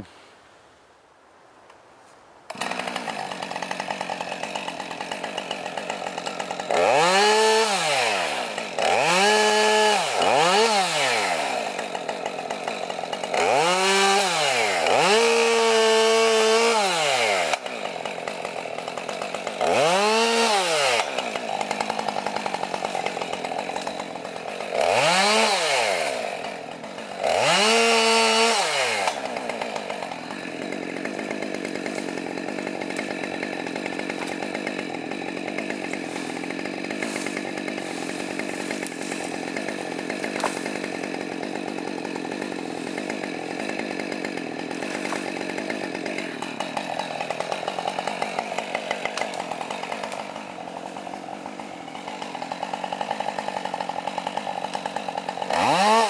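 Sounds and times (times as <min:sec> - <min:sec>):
chainsaw revving and idling: 0:02.5 - 0:56.0.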